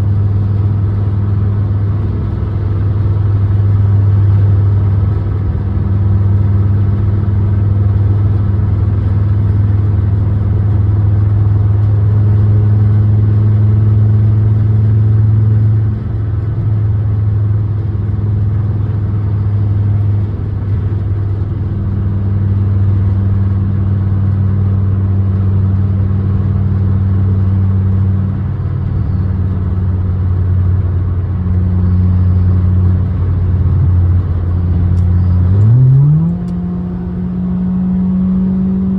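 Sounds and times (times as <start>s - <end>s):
car engine drone: 0.0s - 38.9s.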